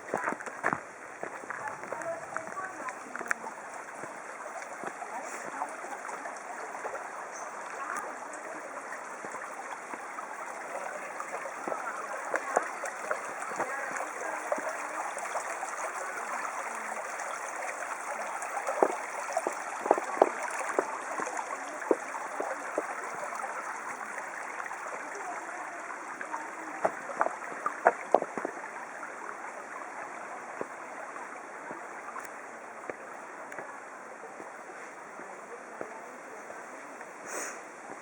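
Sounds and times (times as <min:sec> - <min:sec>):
stream rushing and babbling: 0:00.0 - 0:38.0.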